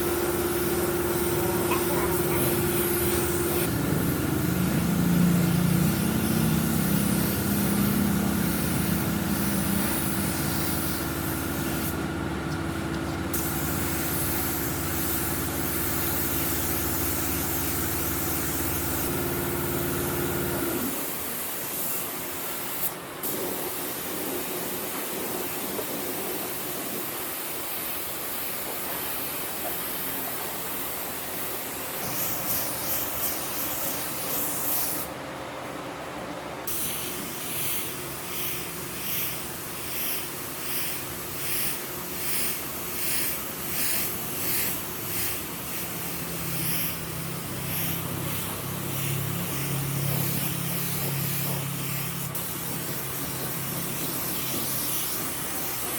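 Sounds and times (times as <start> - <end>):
compressed air spray hissing: 0.0 - 35.2, 36.7 - 55.9.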